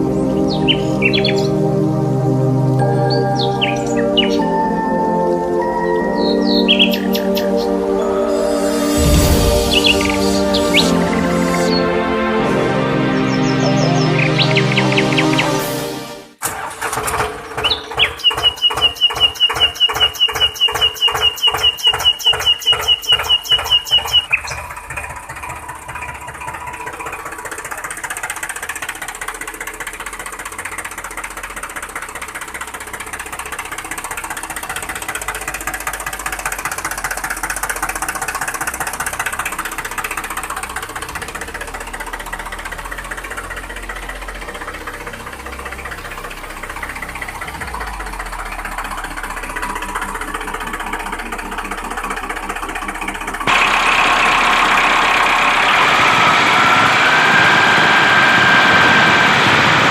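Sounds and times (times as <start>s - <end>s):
small machine running: 0.0s - 12.6s, 17.5s - 59.9s.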